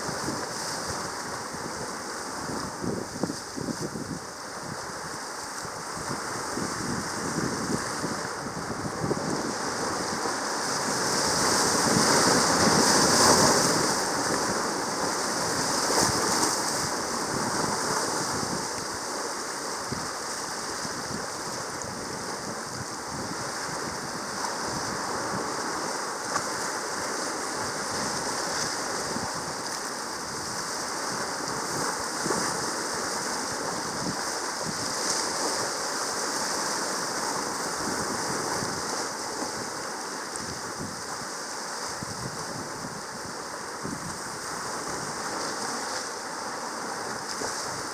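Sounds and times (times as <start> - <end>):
surf on rocky shore: 0.0 - 47.9
wind on microphone: 0.0 - 47.9.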